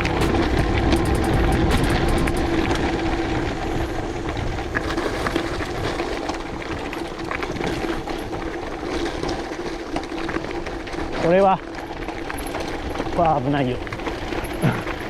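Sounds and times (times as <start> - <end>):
bike rattling: 0.0 - 15.0
tyres crunching over gravel: 0.0 - 15.0
wind rumbling on microphone: 0.0 - 15.0.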